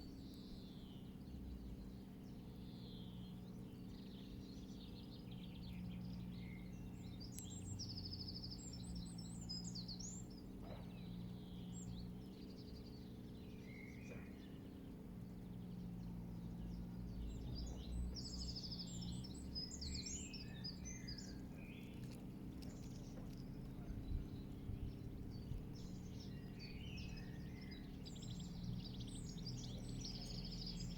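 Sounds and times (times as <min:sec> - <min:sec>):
low background rumble: 0:00.0 - 0:30.9
songbirds singing: 0:00.0 - 0:30.9.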